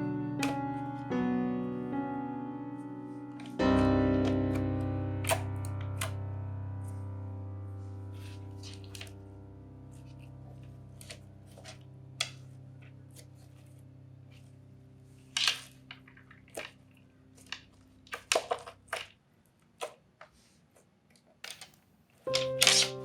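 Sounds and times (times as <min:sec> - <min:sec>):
soft background music: 0:00.0 - 0:19.0, 0:22.3 - 0:23.0.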